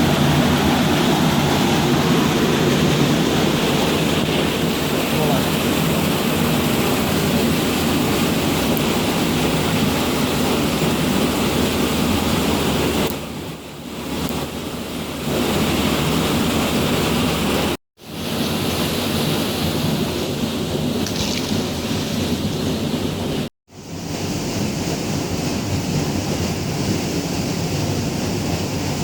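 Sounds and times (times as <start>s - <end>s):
water rushing at a mill: 0.0s - 29.0s.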